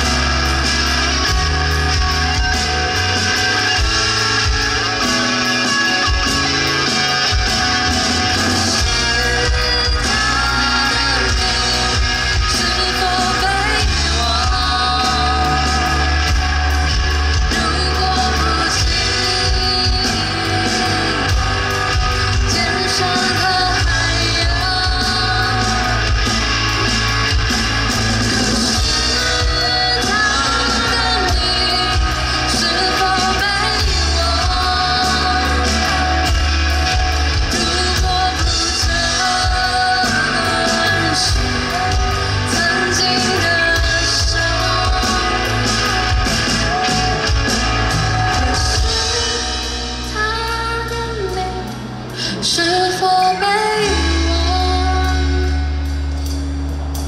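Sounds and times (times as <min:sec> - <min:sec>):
lead vocal singing: 0:00.0 - 0:57.0
live rock band playing: 0:00.0 - 0:57.0.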